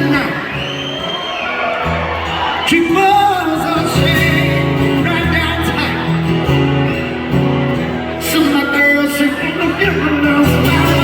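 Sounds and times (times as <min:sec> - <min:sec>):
guitars playing: 0:00.0 - 0:11.0.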